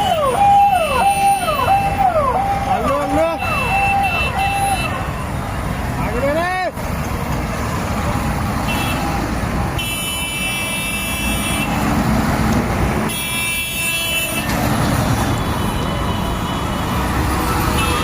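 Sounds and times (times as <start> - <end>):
heavy vehicle engines running: 0.0 - 18.0.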